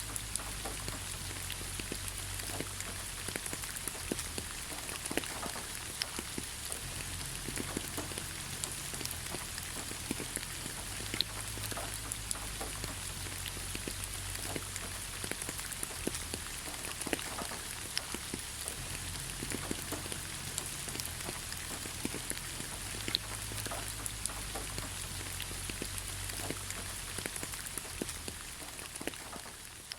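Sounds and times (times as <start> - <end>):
rain on leaves: 0.0 - 29.9.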